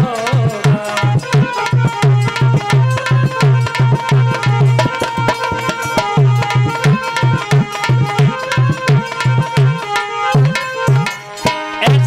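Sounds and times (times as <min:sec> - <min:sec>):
hand drum rhythm: 0:00.0 - 0:12.0
harmonium melody: 0:00.0 - 0:12.0.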